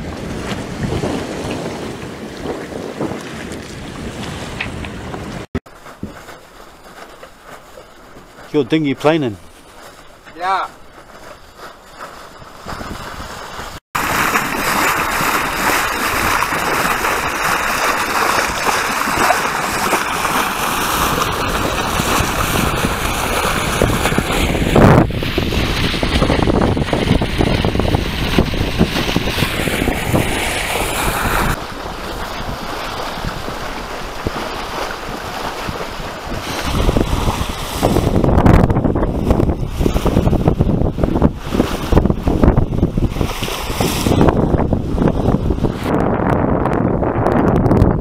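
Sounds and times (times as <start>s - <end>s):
wind buffeting microphone: 0.0s - 6.2s, 12.3s - 48.0s
water rushing along boat hull: 0.0s - 48.0s.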